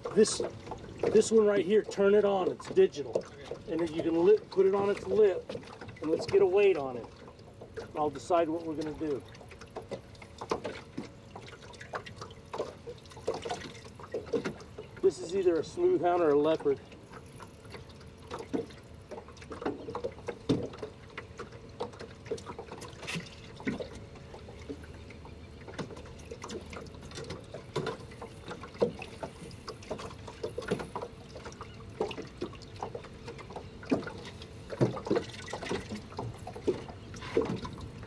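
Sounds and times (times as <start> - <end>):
waves slapping against boat hull: 0.0 - 38.0.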